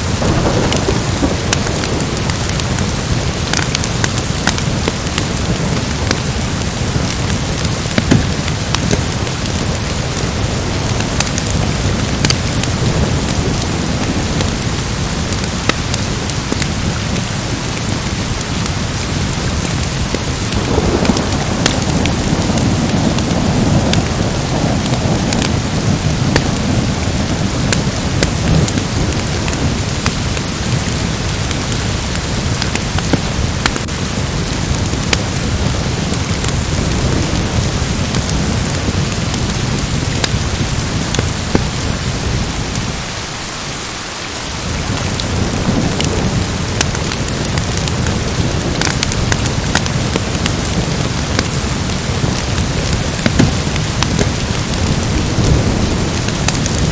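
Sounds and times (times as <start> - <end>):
thunder rumbling: 0.0 - 43.1, 44.6 - 56.9
heavy rain: 0.0 - 56.9.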